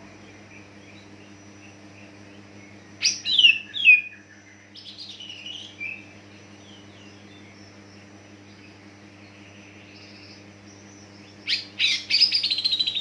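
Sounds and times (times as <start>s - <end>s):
bird singing whistled notes: 0.2s - 7.7s, 8.5s - 13.0s.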